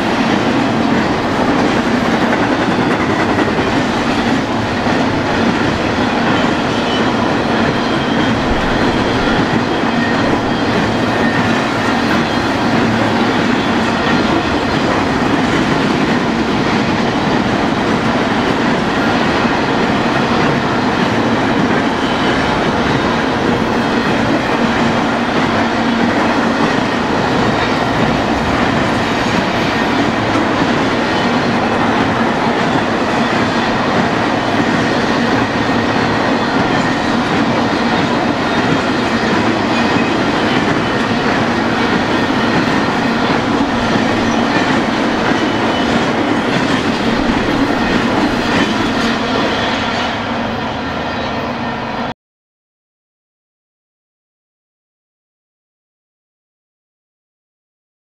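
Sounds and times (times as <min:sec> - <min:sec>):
train wheels rolling on rails: 0:00.0 - 0:52.0.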